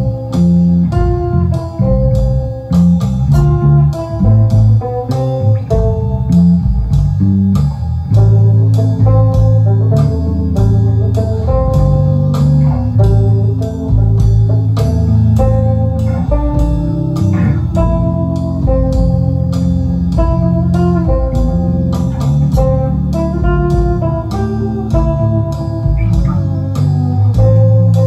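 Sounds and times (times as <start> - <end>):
bass: 0.0 - 28.0
electric guitar melodic lines: 0.0 - 28.0
sampled drum beat: 0.0 - 28.0.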